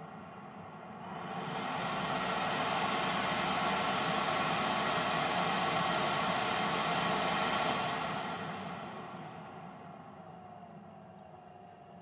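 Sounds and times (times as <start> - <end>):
blower fan rushing air: 0.0 - 11.6.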